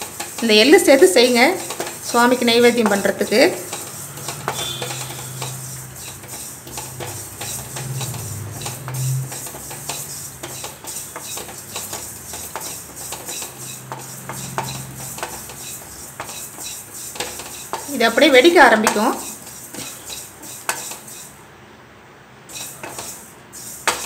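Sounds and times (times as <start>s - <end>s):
spatula stirring roasting seeds: 0.0s - 21.4s, 22.5s - 24.0s.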